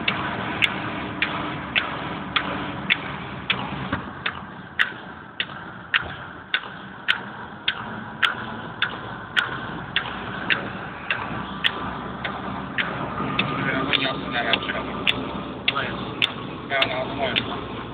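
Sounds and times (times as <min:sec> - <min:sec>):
road and engine noise: 0:00.0 - 0:17.9.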